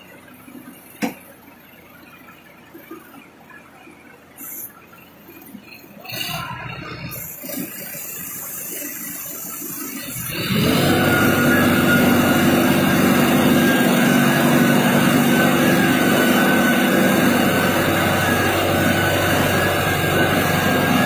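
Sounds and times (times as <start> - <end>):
crane engine running: 0.0 - 21.0.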